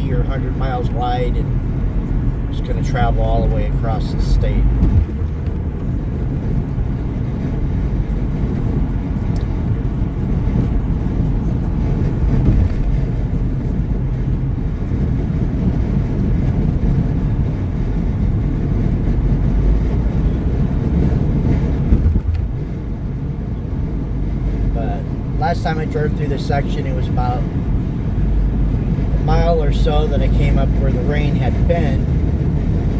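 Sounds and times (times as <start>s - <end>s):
car road and engine rumble: 0.0s - 32.9s.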